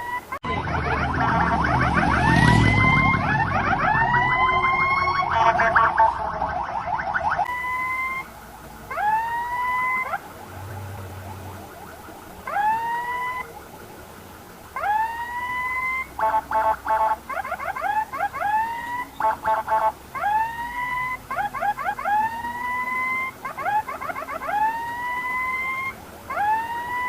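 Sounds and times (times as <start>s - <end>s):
ambulance siren wailing and whooping: 0.0s - 27.0s.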